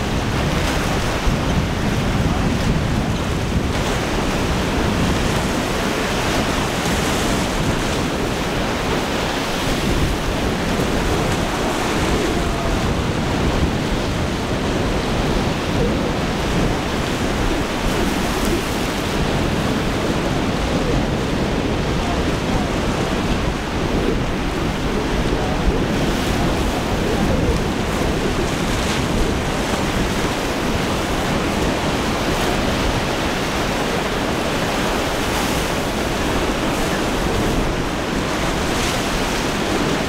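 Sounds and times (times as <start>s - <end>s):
surf breaking: 0.0s - 40.0s
wind buffeting microphone: 0.0s - 40.0s.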